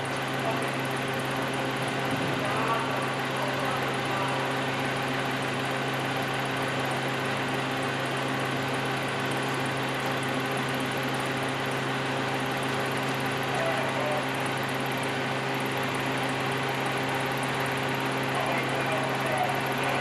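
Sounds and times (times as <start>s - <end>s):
crane engine droning: 0.0s - 20.0s.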